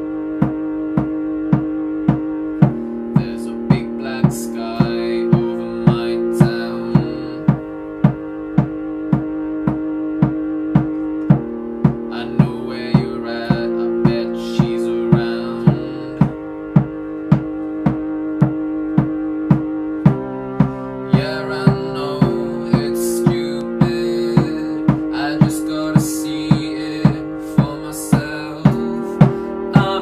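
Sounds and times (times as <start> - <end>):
electronic keyboard chords: 0.0 - 30.0
steady drum beat: 0.4 - 30.0.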